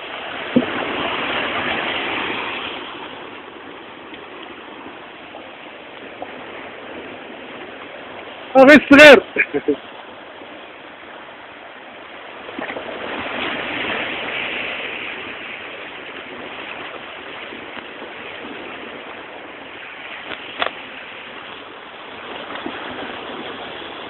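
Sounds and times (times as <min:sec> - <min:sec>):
sea waves washing against rocks: 0:00.0 - 0:24.0.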